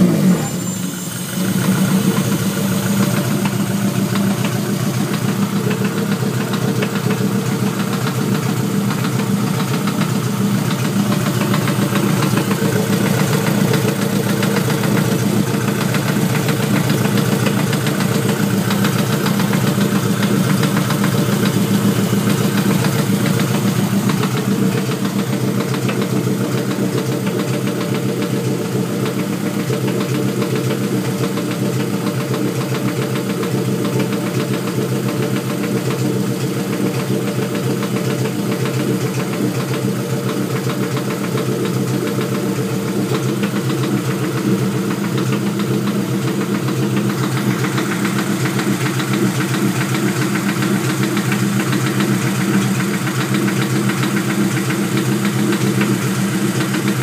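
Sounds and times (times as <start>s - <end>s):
car engine idling: 0.0s - 57.0s
fast regular engine knock: 1.4s - 57.0s.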